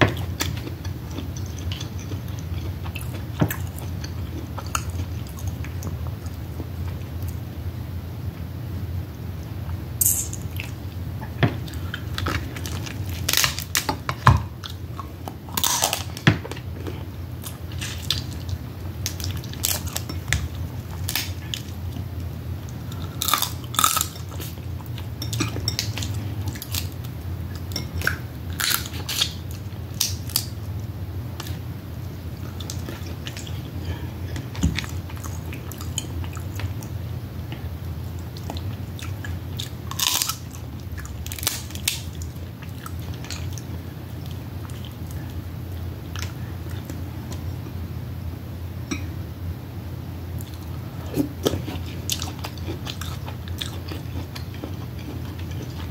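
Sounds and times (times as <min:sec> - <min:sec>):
person chewing and smacking: 0:00.1 - 0:07.4, 0:10.4 - 0:22.1, 0:22.7 - 0:30.5, 0:32.4 - 0:36.9, 0:37.5 - 0:45.4, 0:50.4 - 0:55.9.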